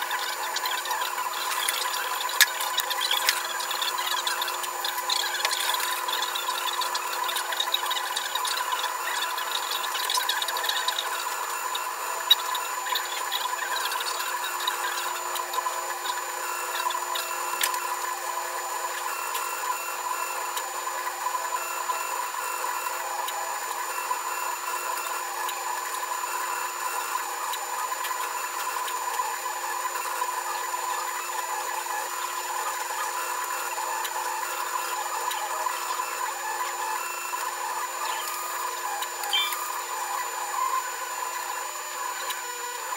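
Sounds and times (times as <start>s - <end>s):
stepper motors whining: 0.0s - 42.9s.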